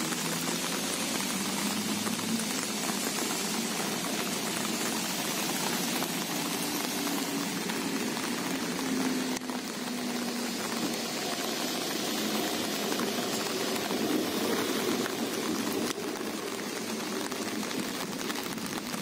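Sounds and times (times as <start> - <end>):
steady rain on pavement and sea: 0.0 - 19.0.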